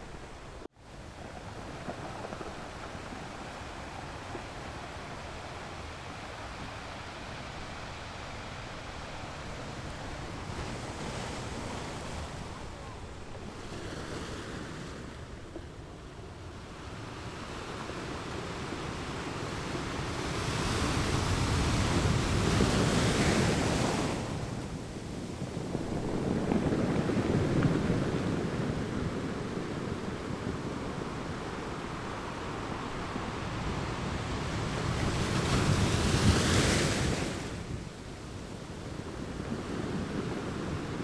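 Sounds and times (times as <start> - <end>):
ocean surf breaking: 0.0 - 16.1, 16.9 - 41.0.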